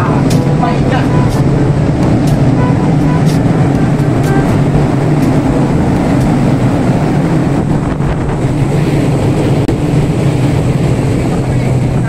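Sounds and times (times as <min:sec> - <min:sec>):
ship machinery drone: 0:00.0 - 0:12.0
wind on microphone: 0:00.0 - 0:12.0.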